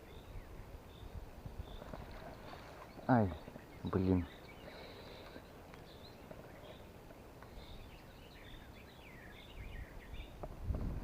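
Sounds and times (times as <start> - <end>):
songbirds chirping and warbling: 0.0 - 11.0.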